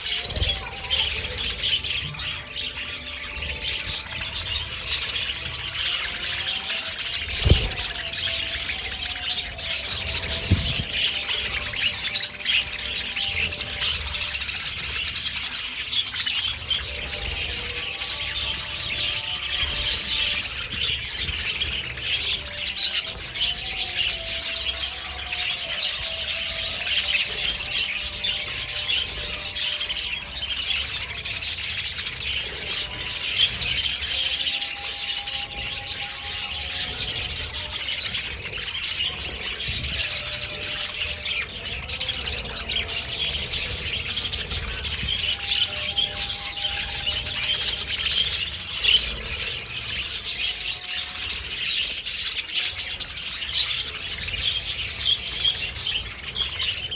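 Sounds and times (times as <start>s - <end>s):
budgerigars chattering and warbling: 0.0s - 56.9s.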